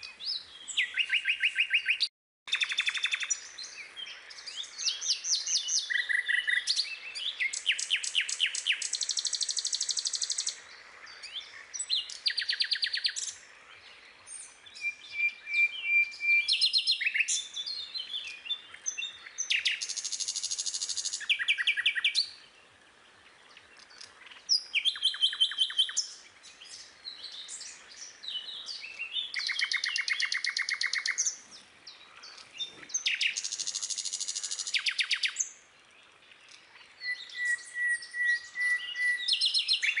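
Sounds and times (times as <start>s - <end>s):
songbird singing trills: 0.0s - 40.0s.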